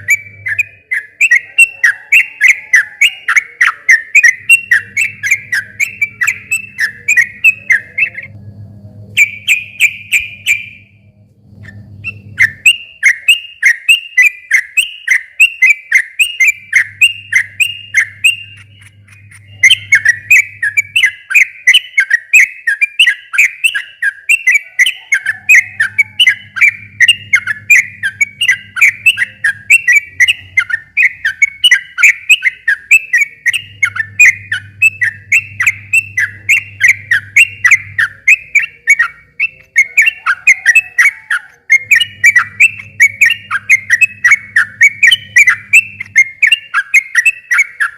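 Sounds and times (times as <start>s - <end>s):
bulbul singing whistled notes: 0.0s - 8.3s, 9.2s - 10.9s, 11.6s - 47.9s.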